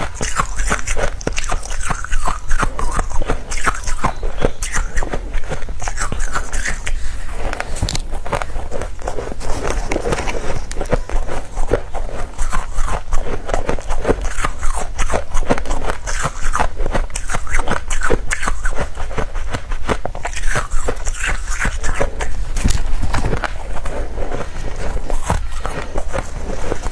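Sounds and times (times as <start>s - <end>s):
chewing and crunching ice: 0.0s - 26.9s.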